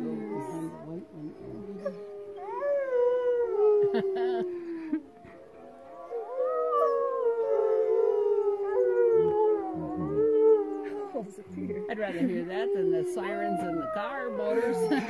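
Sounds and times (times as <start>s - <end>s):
wolves howling in chorus: 0.0s - 15.0s.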